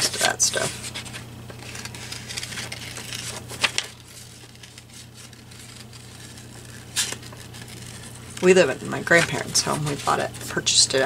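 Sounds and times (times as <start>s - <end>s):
scissors cutting paper: 0.0s - 10.3s
paper rustling and crinkling: 0.0s - 11.0s.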